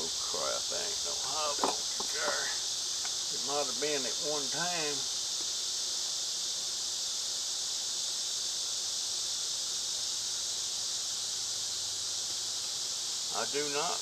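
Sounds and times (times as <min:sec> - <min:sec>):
katydid chorus buzzing: 0:00.0 - 0:14.0.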